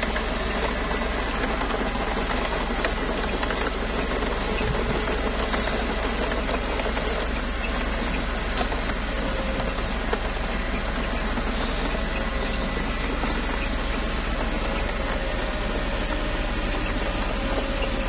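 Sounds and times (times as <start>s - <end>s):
bulldozer diesel engine clattering: 0.0s - 18.0s.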